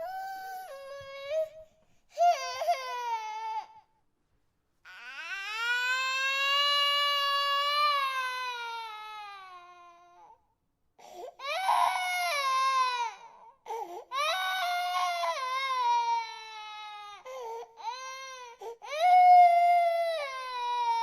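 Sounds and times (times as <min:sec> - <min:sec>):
infant crying: 0:00.0 - 0:03.8, 0:04.9 - 0:10.4, 0:11.0 - 0:21.0.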